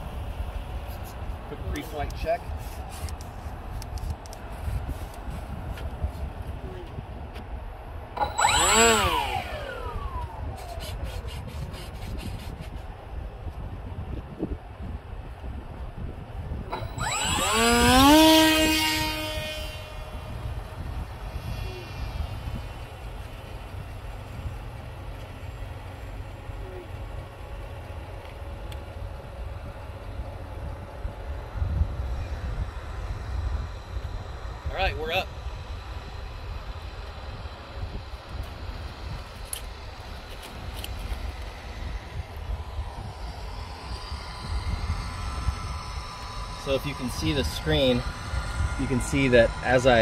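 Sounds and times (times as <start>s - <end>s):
electric motor and propeller whine: 0.0s - 50.0s
faint steady hum: 0.0s - 50.0s
wind buffeting microphone: 0.0s - 50.0s.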